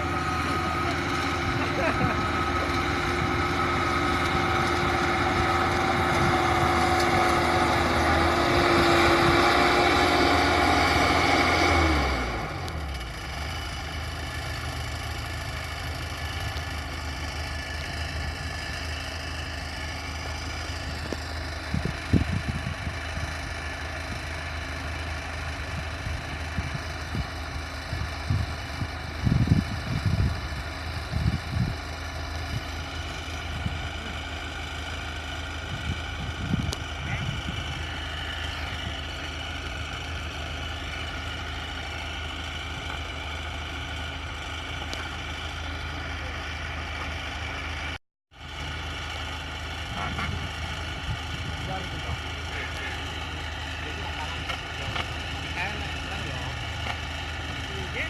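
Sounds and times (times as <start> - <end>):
combine harvester engine running: 0.0 - 58.0.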